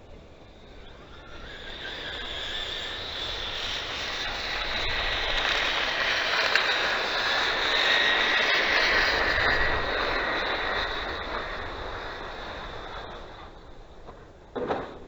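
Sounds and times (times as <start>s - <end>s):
rc truck motor whine: 0.0s - 15.0s.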